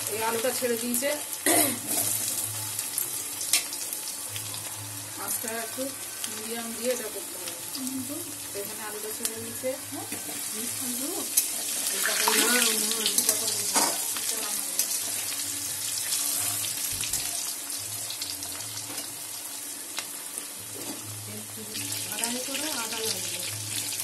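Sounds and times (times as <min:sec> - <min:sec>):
potatoes sizzling in hot oil: 0:00.0 - 0:24.0.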